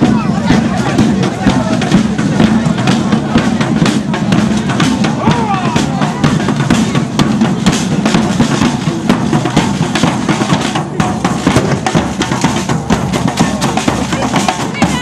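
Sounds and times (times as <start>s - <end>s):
bass drums beating: 0.0s - 15.0s
snare drums beating: 0.0s - 15.0s.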